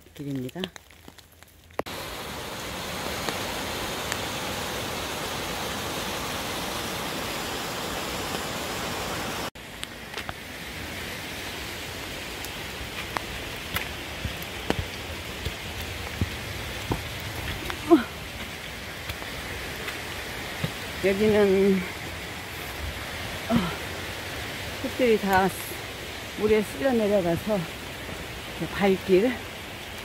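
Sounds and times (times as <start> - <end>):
rain falling on forest: 0.0 - 30.0.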